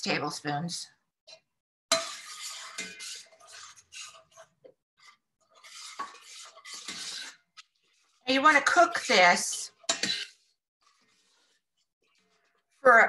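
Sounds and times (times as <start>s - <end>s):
metal spoon scraping a saucepan: 1.3s - 12.8s.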